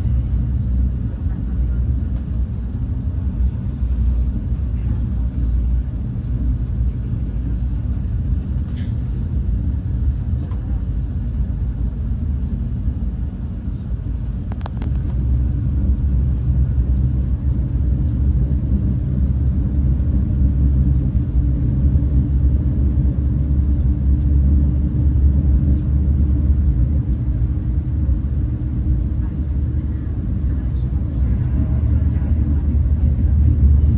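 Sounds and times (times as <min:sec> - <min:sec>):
train wheels rumbling on track: 0:00.0 - 0:33.9.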